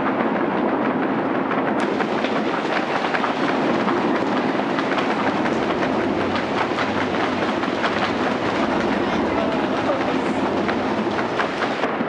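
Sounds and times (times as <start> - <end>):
crowd patting legs: 1.8 - 11.9.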